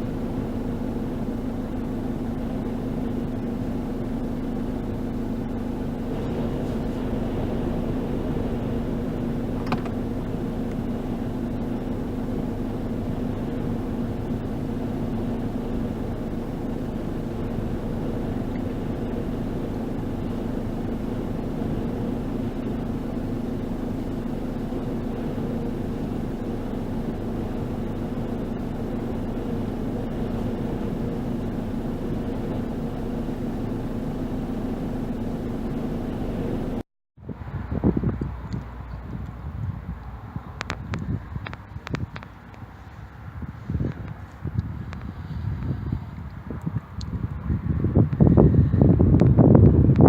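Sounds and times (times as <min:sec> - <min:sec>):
low hum: 0:00.0 - 0:42.0
strong wind against van: 0:00.0 - 0:50.0.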